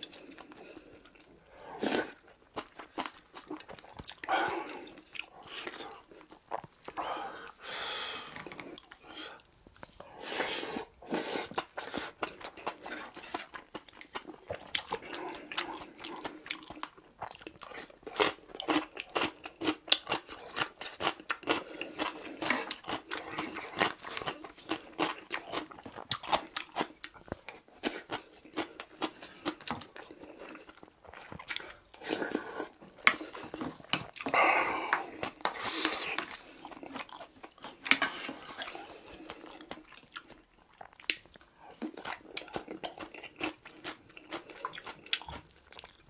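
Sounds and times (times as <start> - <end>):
man chewing food: 0.0 - 46.0.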